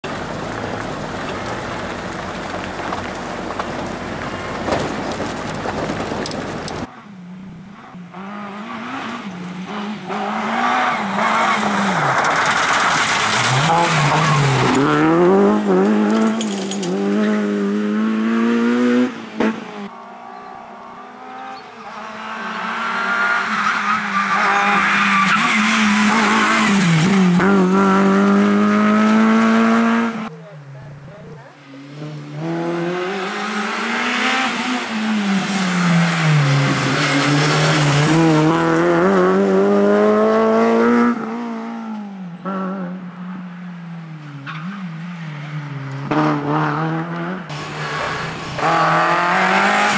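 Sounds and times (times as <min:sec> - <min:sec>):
rally car engine revving: 0:00.0 - 0:19.9, 0:21.0 - 0:30.3, 0:31.1 - 0:43.4, 0:44.0 - 0:49.9.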